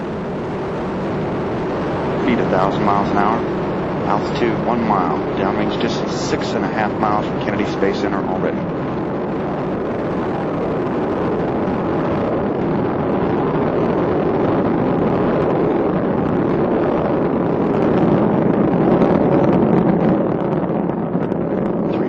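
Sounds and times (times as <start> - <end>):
rocket engines rumbling: 0.0 - 22.0.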